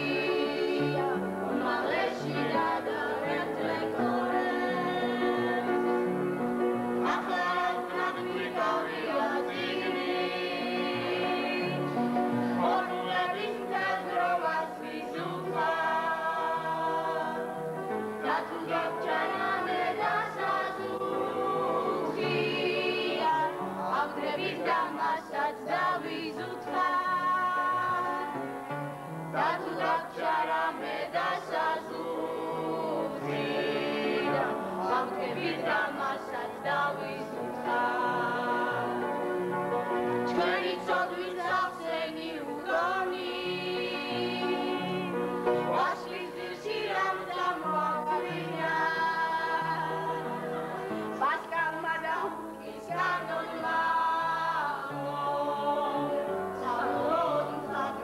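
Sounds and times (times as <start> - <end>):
group singing together: 0.0 - 58.0.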